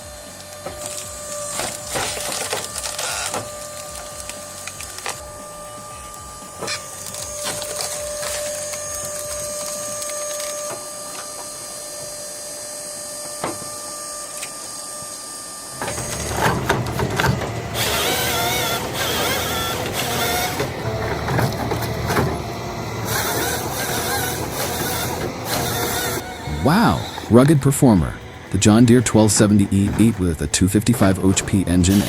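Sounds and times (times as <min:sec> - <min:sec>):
deep machine noise with wavering whine: 0:00.0 - 0:32.0
wood-processing machinery whining: 0:00.0 - 0:32.0.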